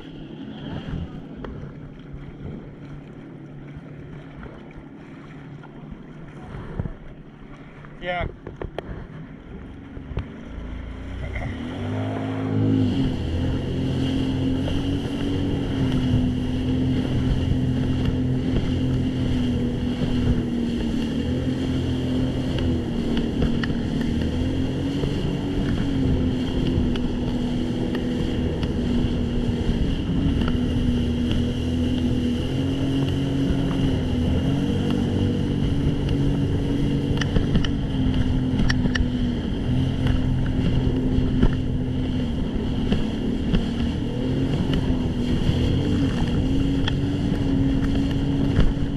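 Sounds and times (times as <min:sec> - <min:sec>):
jet ski engine running: 0:00.0 - 0:48.9.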